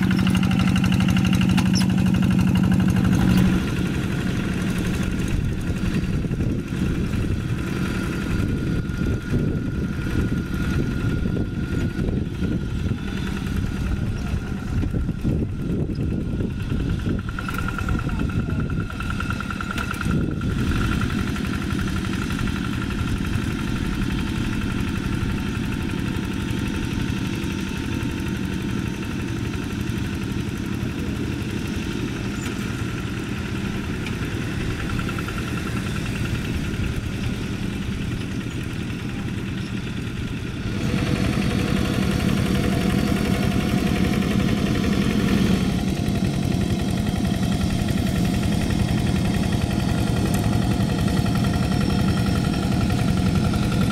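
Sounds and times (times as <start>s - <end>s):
hand tractor diesel engines: 0.0s - 53.9s.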